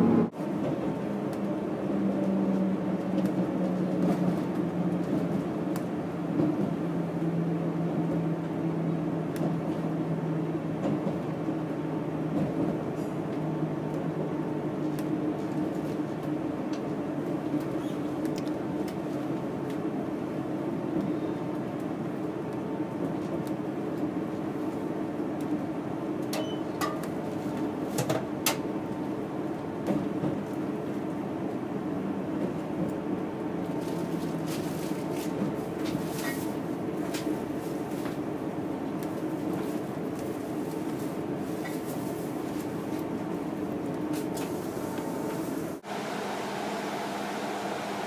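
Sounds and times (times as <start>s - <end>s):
train rumbling on track: 0.0s - 48.0s.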